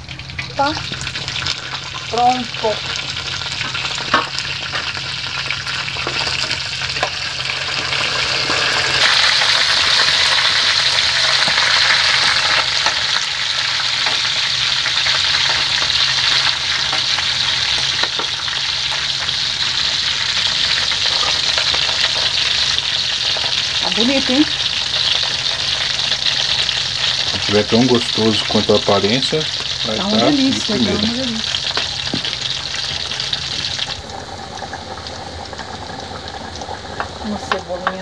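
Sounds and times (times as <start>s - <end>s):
chicken sizzling in pot: 0.0s - 38.0s.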